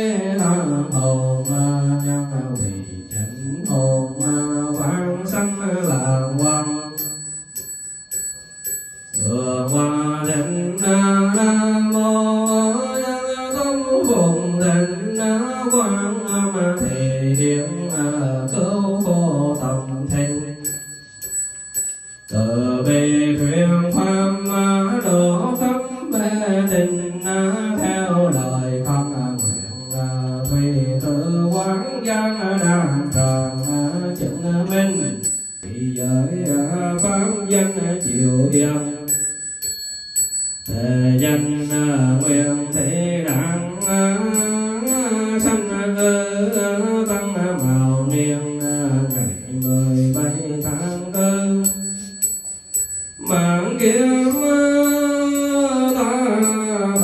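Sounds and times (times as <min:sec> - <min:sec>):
man chanting through a microphone: 0:00.0 - 0:07.0, 0:09.3 - 0:20.7, 0:22.4 - 0:39.1, 0:40.7 - 0:51.9, 0:53.2 - 0:57.0.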